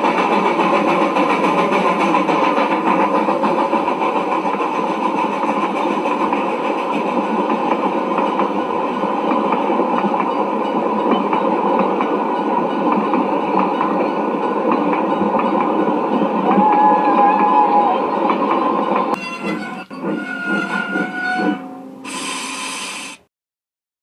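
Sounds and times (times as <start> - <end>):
train running on rails: 0.0 - 23.3.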